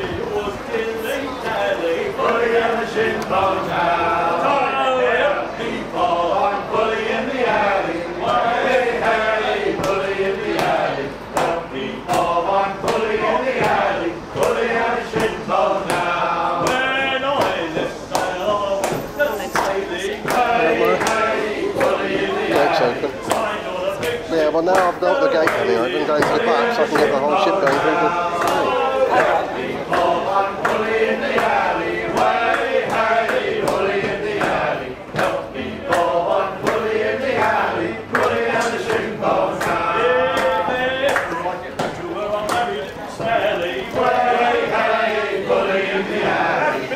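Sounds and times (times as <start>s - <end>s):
men singing: 0.0s - 46.9s.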